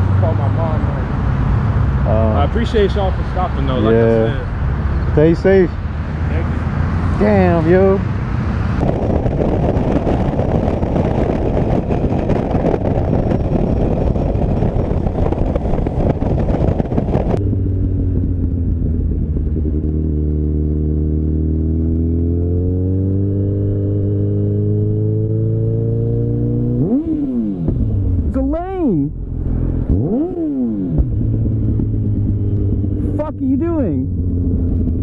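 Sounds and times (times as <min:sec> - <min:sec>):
motorcycle engine revving up: 0:00.0 - 0:28.4, 0:29.1 - 0:35.0
wind and road roar: 0:00.0 - 0:35.0.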